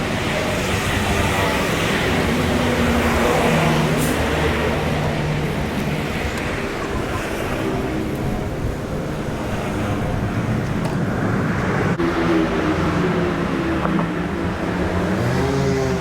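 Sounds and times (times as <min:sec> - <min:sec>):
roadway rumble: 0:00.0 - 0:16.0.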